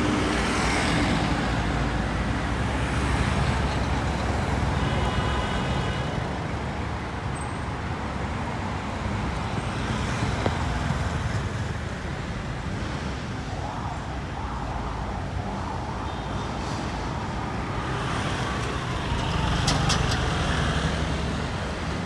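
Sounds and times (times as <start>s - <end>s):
street traffic driving past: 0.0s - 22.0s.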